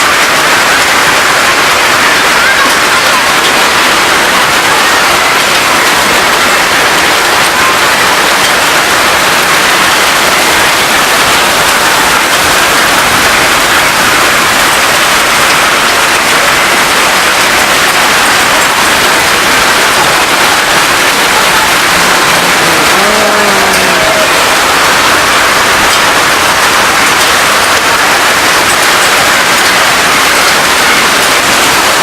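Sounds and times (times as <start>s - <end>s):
hail and heavy rain pelting: 0.0s - 32.0s.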